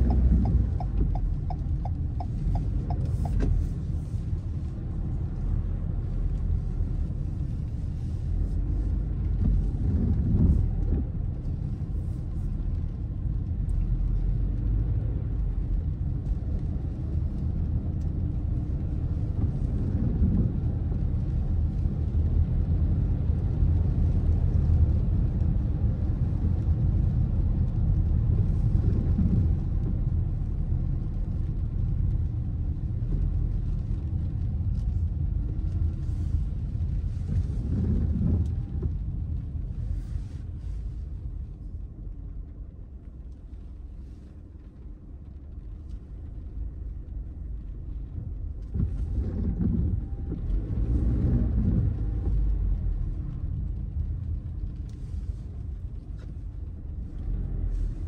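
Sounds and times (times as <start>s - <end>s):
car driving on wet pavement: 0.0s - 58.0s.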